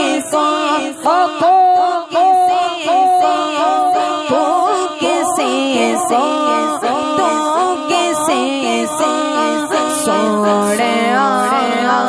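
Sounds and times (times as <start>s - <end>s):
voices singing unaccompanied: 0.0s - 12.0s.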